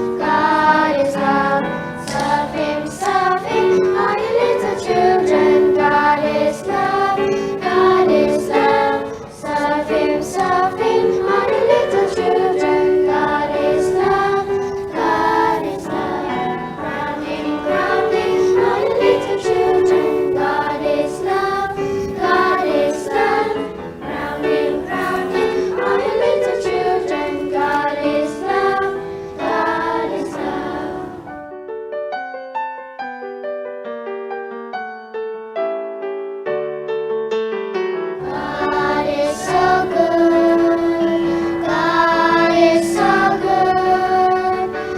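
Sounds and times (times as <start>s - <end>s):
choir with children singing: 0.0s - 31.5s, 38.2s - 44.9s.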